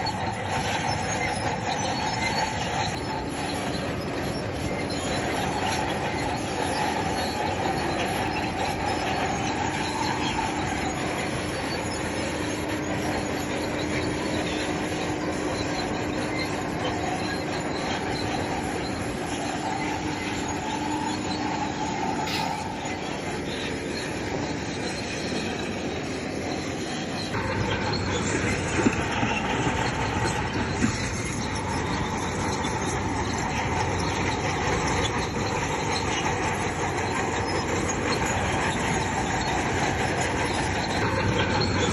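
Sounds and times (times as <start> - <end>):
diesel engine running: 0.0 - 41.9
steel tracks squealing: 0.0 - 41.9.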